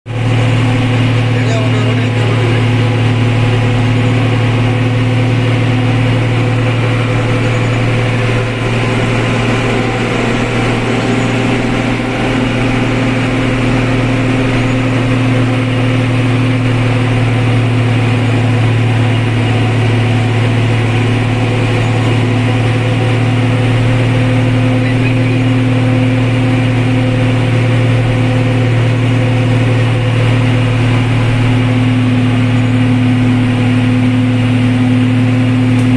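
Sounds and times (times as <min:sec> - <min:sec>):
vehicle engine droning: 0:00.1 - 0:35.9.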